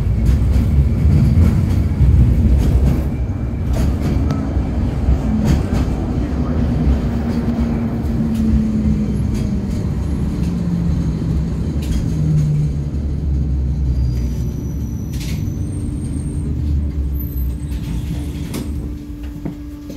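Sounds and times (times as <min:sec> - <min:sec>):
tram running gear rumble: 0:00.0 - 0:19.9.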